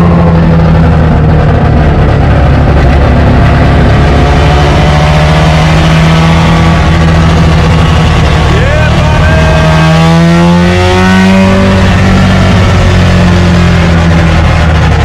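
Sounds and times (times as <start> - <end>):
rotary engine running loud: 0.0 - 15.0.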